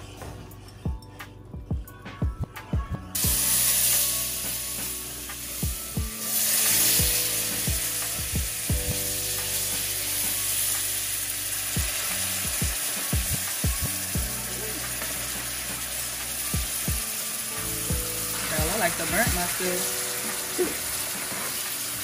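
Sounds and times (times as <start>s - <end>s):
broth sizzling in skillet: 3.2s - 22.0s.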